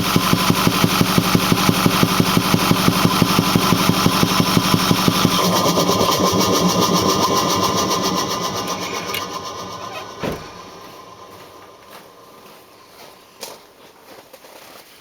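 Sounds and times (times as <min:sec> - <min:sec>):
rhythmic thumping from intake: 0:00.0 - 0:13.4
diesel engine running: 0:00.0 - 0:13.8.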